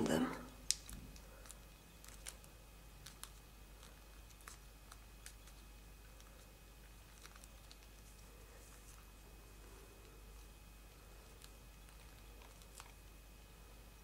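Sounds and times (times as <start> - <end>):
low steady background hiss: 0.0 - 14.0
paper model ticks and crackles: 0.6 - 9.1, 10.0 - 13.1.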